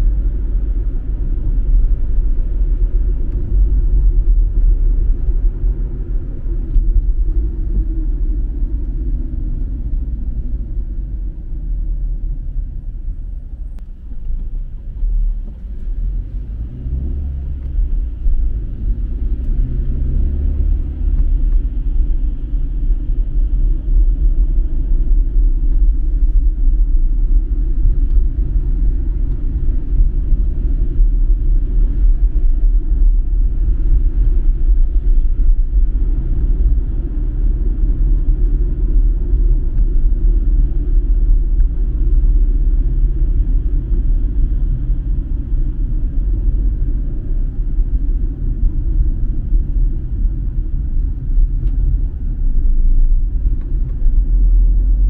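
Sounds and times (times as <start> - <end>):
car driving heard from cabin: 0.0 - 55.0.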